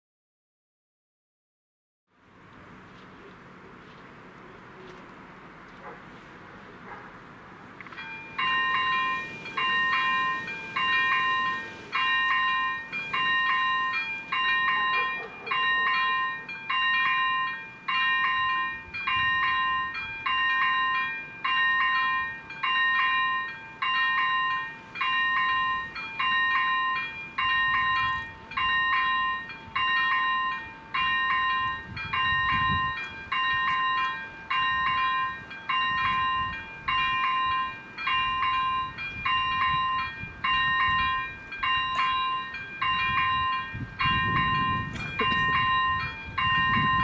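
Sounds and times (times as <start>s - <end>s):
level crossing warning bells: 7.2s - 47.0s.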